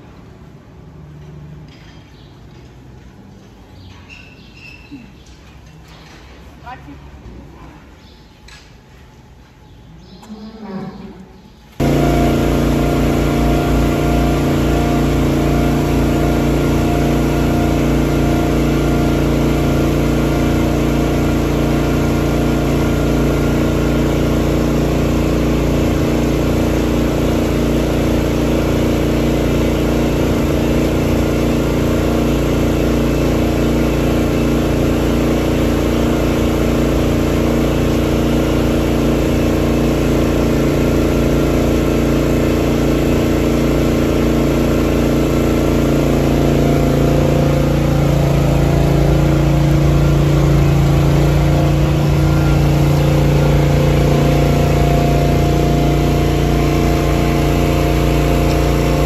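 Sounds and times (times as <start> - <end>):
motor humming steadily: 11.2 - 59.0.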